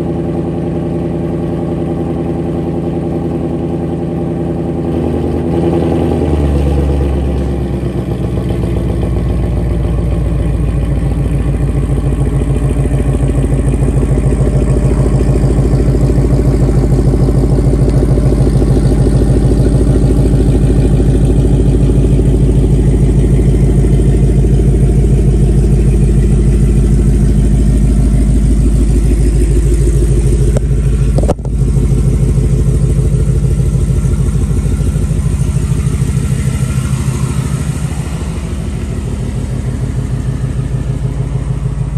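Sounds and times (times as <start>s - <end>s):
car engine idling: 0.0s - 41.9s
engine knock: 0.0s - 41.9s.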